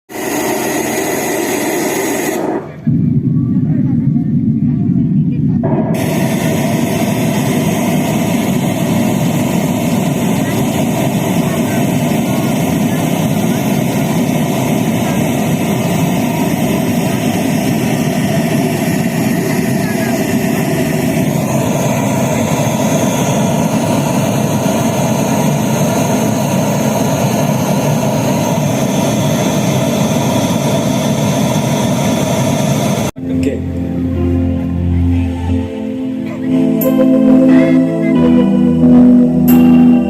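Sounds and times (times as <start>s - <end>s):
loud sound system wash: 0.1s - 40.0s.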